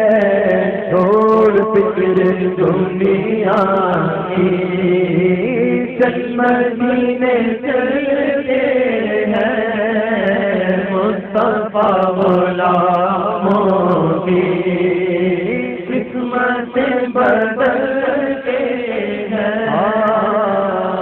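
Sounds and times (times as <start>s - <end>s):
men singing: 0.0s - 21.0s.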